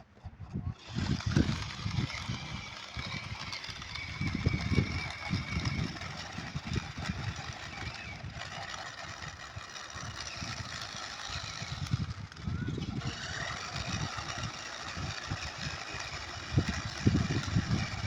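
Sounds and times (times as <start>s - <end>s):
small electric motor whining: 0.5s - 18.0s
low rumbling: 0.6s - 18.0s.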